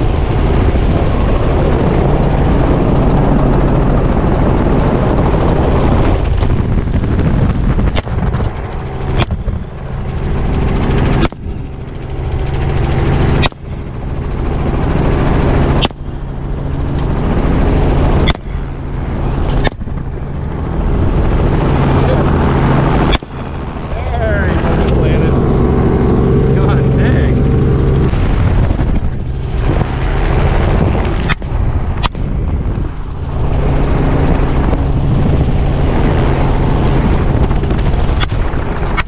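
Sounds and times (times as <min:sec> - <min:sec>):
helicopter running: 0:00.0 - 0:39.0.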